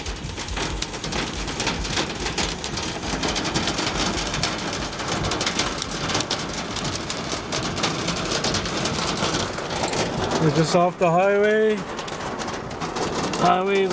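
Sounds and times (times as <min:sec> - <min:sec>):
hailstones pelting a vehicle: 0:00.0 - 0:13.9.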